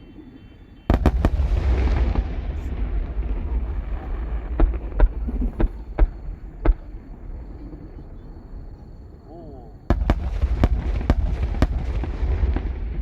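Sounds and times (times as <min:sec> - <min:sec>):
fireworks sharp bangs: 0:00.0 - 0:09.1, 0:09.8 - 0:13.0
fireworks deep rolling boom: 0:00.0 - 0:13.0.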